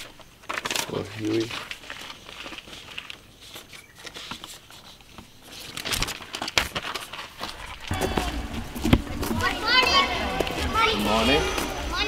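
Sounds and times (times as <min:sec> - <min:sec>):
paper rustling and crinkling: 0:00.0 - 0:11.8.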